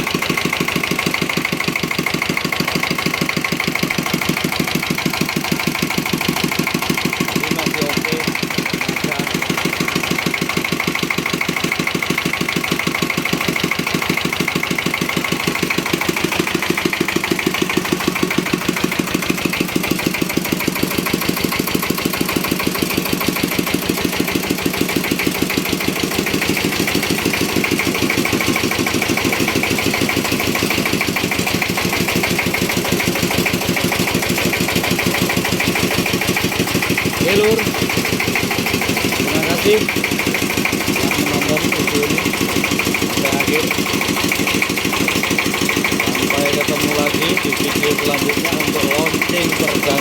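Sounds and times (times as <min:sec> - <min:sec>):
diesel engine chugging: 0:00.0 - 0:50.0.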